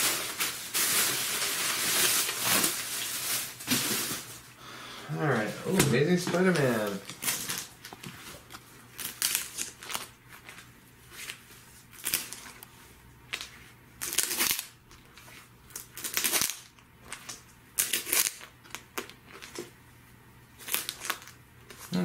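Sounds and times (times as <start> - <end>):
plastic comic bags crinkling: 0.0 - 4.5, 5.6 - 19.7, 20.6 - 22.0.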